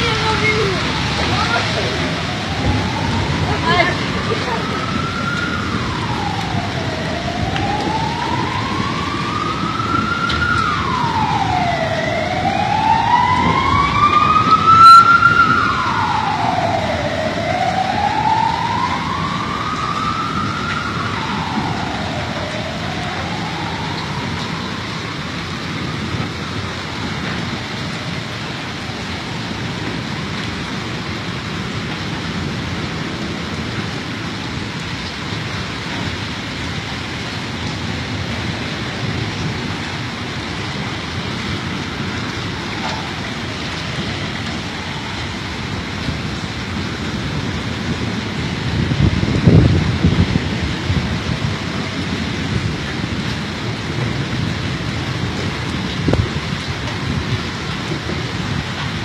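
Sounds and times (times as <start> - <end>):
emergency vehicle siren wailing: 0.0 - 59.0
heavy rain on a flooded street: 0.0 - 59.0.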